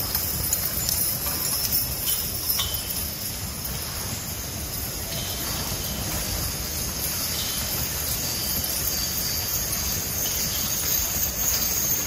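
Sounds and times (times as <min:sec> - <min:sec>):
harness and wagon rattle: 0:00.0 - 0:12.0
steady high-pitched whine: 0:00.0 - 0:12.0.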